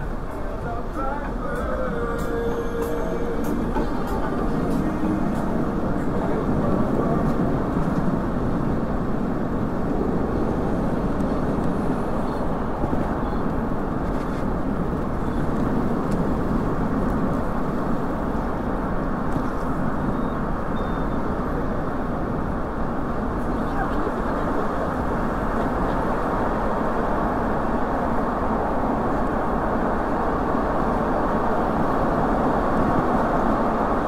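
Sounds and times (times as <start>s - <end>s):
car traffic: 0.0s - 34.0s
road noise: 0.0s - 34.0s
wind rumble: 0.0s - 34.0s.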